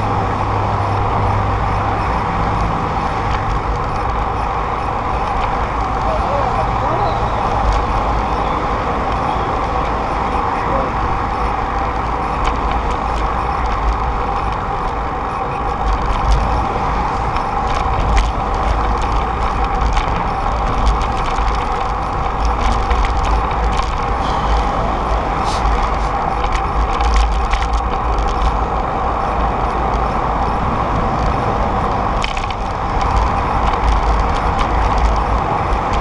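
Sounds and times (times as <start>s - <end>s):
freeway traffic rushing: 0.0s - 36.0s
wind rumble on microphone: 0.0s - 36.0s.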